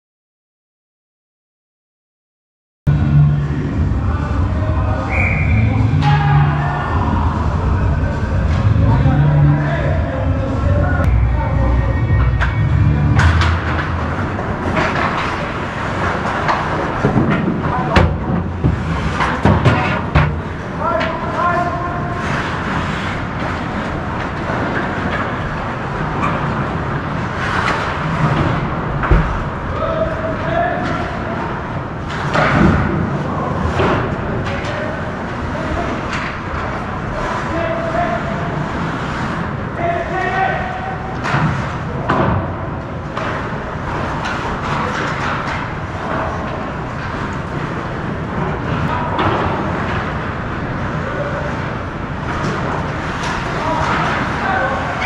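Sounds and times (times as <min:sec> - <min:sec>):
hockey game noise: 0:02.9 - 0:55.0.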